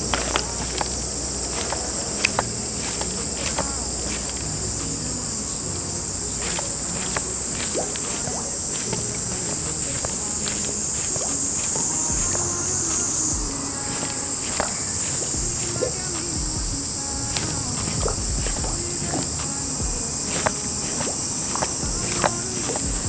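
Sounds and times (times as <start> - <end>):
insects buzzing chorus: 0.0 - 23.0.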